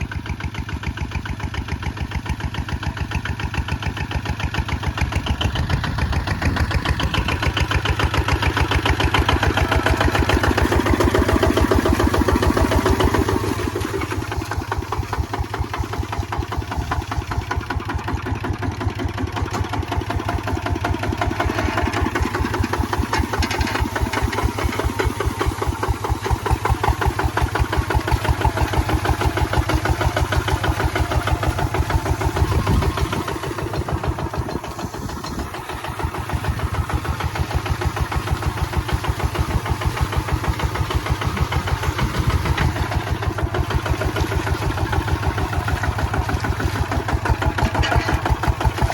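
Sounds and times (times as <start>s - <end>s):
diesel engine chugging: 0.0s - 48.9s.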